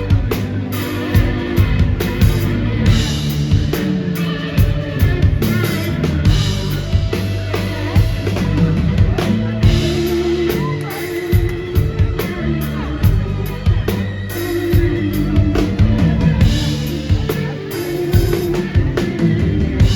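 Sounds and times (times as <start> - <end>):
drum kit beat: 0.0 - 19.9
guitar notes: 0.0 - 19.9
keyboard notes: 0.0 - 19.9
sustained bass: 0.0 - 19.9.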